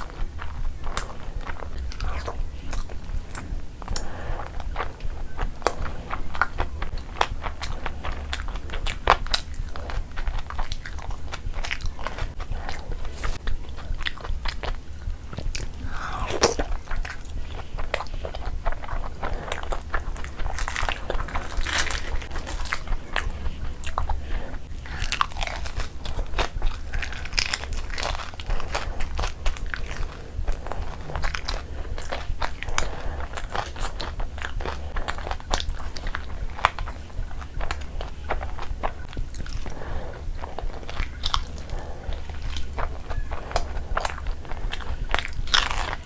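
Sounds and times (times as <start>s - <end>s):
crunchy bites: 0.0s - 46.0s
lip smacks: 0.0s - 46.0s
wet chewing: 0.0s - 46.0s.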